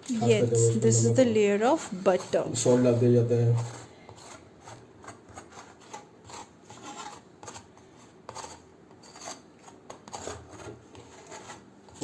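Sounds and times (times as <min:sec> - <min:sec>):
utensil scraping butter on pizza base: 0:00.2 - 0:12.0.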